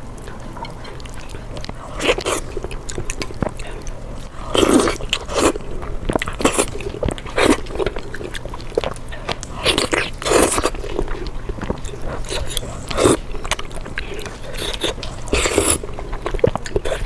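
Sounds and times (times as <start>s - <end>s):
faint low hum: 0.0s - 17.0s
person biting and chewing: 0.6s - 17.0s.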